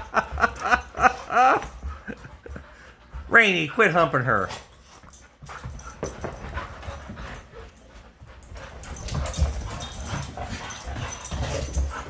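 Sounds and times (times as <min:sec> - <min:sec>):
dogs playing roughly: 0:00.0 - 0:12.0.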